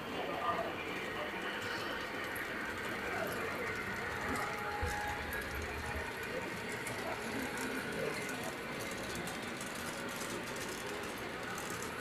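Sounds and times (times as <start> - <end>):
faint indistinct voices: 0.0 - 12.0
steady background noise: 0.0 - 12.0.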